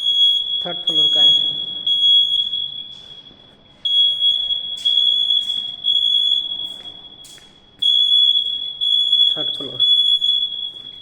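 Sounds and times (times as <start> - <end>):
fire alarm hooter tone: 0.0 - 11.0.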